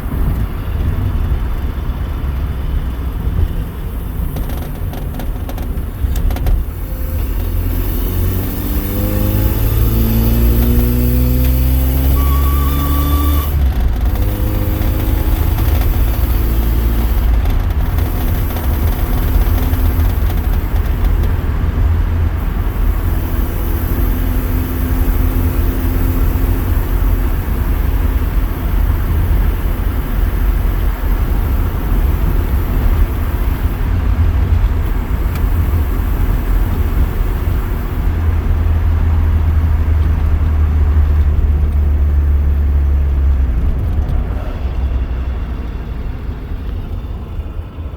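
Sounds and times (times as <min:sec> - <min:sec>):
car engine drone: 0:00.0 - 0:47.9
road noise: 0:00.0 - 0:47.9.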